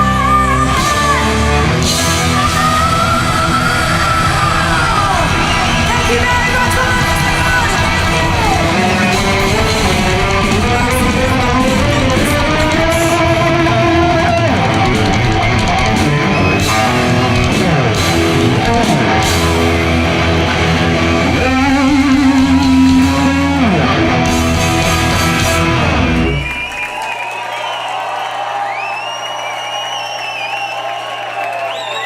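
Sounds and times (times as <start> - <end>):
lead guitar sliding in pitch: 0.0 - 26.7
heavy metal band playing live: 0.0 - 26.8.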